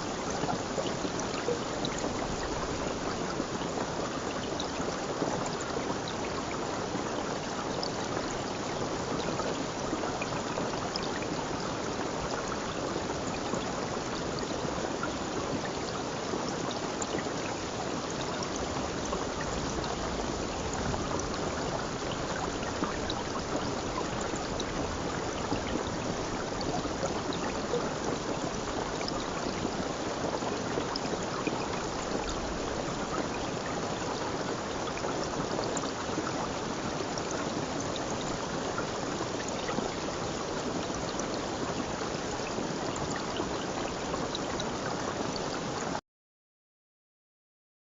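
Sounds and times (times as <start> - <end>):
running water: 0.0 - 46.0.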